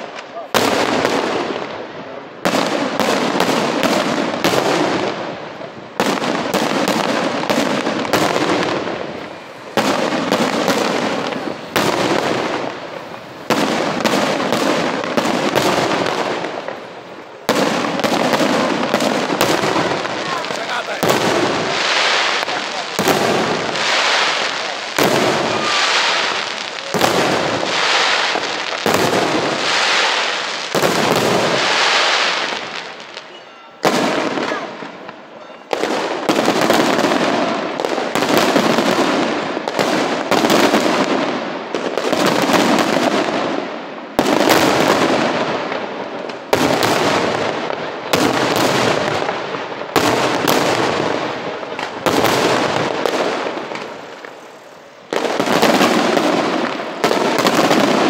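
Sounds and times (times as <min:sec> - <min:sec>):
fireworks bangs with echo: 0:00.0 - 0:58.0.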